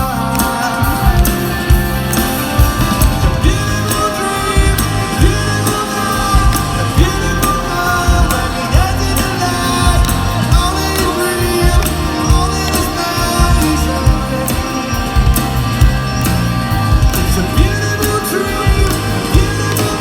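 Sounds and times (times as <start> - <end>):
person singing: 0.0 - 2.2, 2.8 - 15.5, 17.1 - 20.0
live rock band playing: 0.0 - 20.0.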